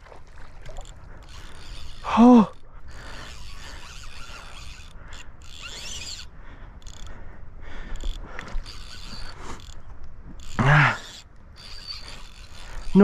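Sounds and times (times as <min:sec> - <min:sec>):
fly reel drag ratcheting: 0:00.4 - 0:13.0.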